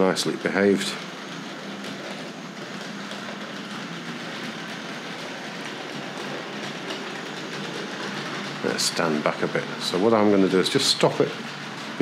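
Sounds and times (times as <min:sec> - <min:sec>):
electric motor hum: 0:00.0 - 0:12.0
wheels clattering over track: 0:00.0 - 0:12.0.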